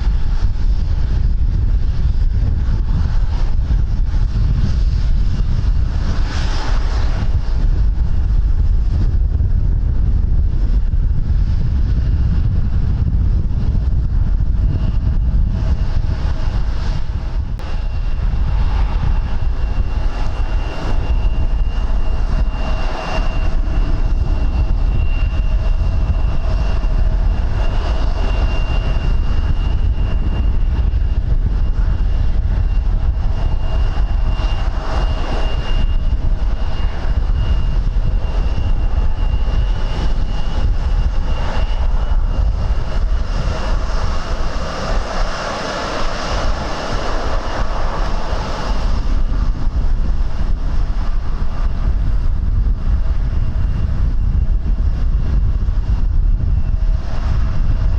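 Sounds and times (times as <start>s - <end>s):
aircraft engines whining: 0.0s - 57.9s
wind buffeting microphone: 0.0s - 57.9s.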